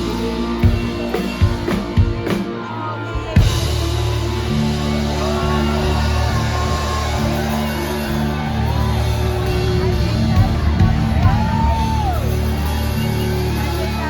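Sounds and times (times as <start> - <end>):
audience whooping and yelling: 0.0 - 14.0
rock band holding a chord: 0.0 - 14.0.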